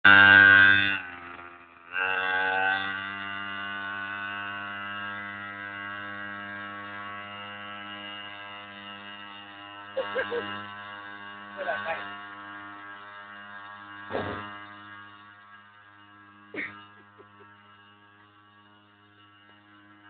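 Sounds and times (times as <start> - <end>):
small motorbike engine revving: 0.0 - 20.0.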